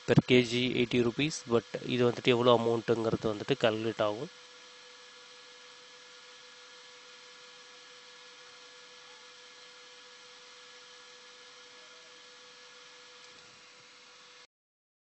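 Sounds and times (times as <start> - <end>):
faint steady hum: 0.0 - 14.5.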